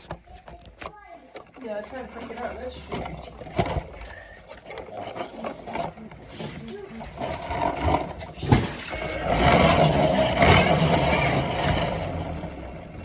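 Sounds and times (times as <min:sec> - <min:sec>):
toy car motor whirring: 0:00.9 - 0:12.6.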